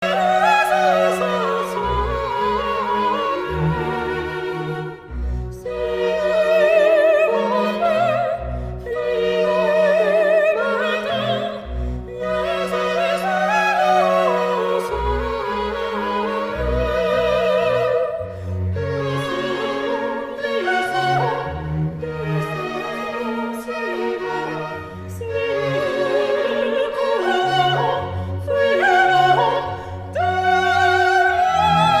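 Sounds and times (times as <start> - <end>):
orchestral accompaniment: 0.0 - 32.0.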